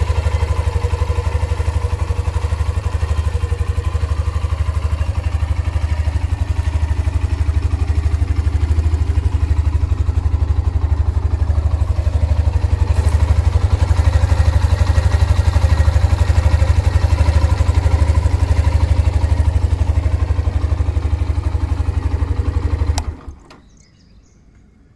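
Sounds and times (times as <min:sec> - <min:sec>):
motorcycle engine idling: 0:00.0 - 0:24.4.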